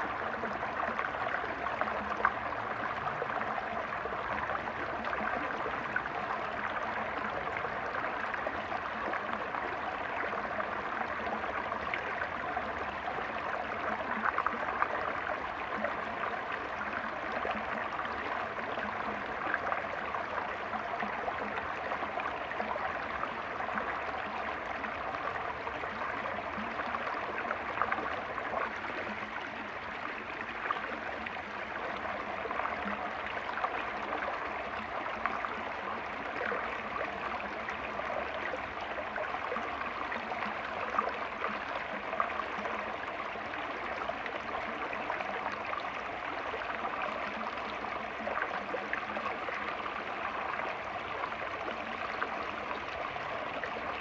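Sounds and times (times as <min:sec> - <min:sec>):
stream splashing over rocks: 0:00.0 - 0:54.0.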